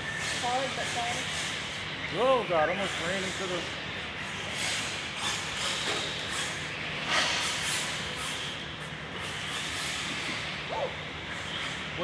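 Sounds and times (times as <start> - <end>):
rc car tyres and motor hissing: 0.0 - 10.7.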